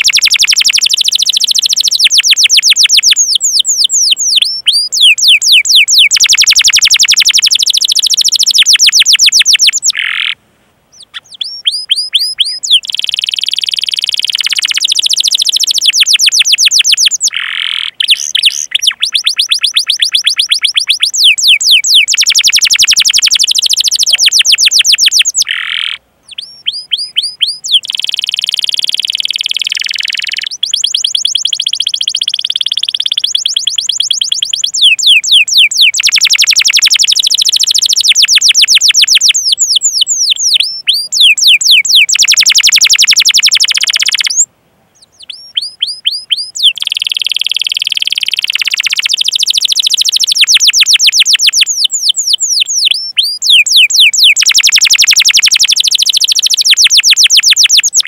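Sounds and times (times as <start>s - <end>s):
canary singing chirps and trills: 0.0s - 58.0s.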